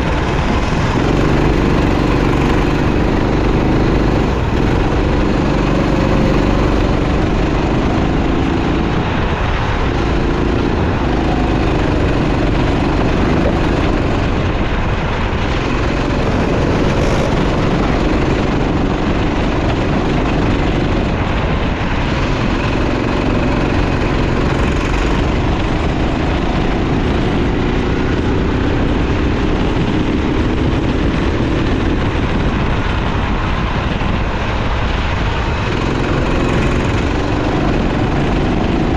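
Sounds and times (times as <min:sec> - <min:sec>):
racing kart engine revving: 0:00.0 - 0:38.9.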